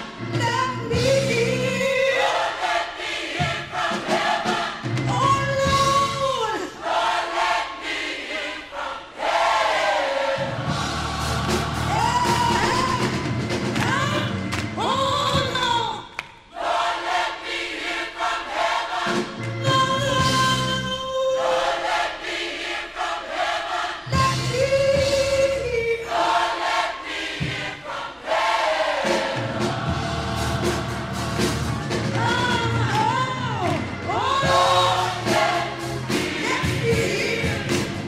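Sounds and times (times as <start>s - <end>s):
gospel choir singing: 0.0s - 15.6s, 16.4s - 38.0s.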